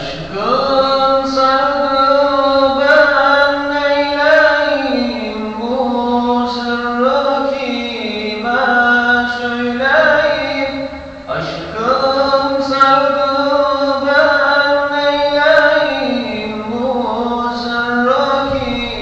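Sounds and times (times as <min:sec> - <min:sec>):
man chanting solo: 0:00.0 - 0:19.0.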